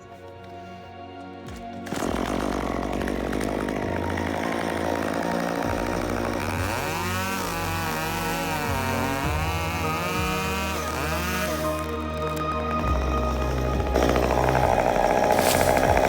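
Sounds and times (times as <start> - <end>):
chainsaw cutting wood: 1.4 - 16.0.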